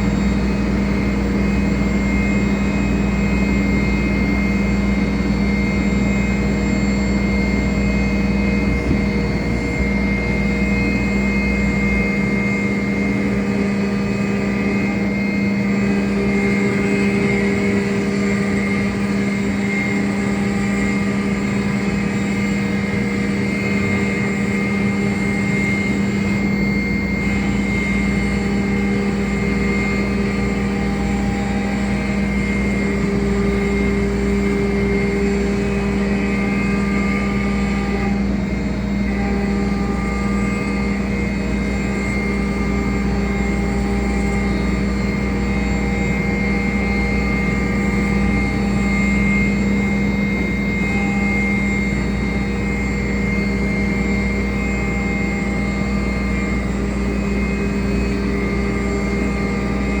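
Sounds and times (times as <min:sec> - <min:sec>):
cnc router motor hum: 0:00.0 - 1:00.0.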